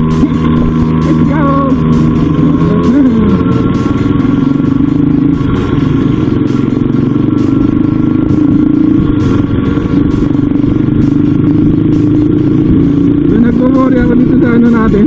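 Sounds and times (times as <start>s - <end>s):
small motorbike engine running: 0.0s - 15.0s.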